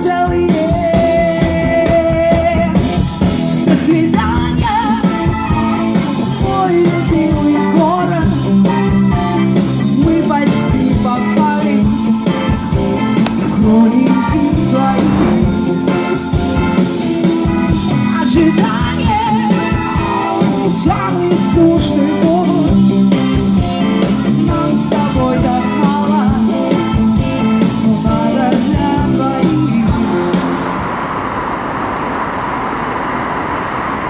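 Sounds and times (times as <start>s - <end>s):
rock song with vocals: 0.0s - 30.8s.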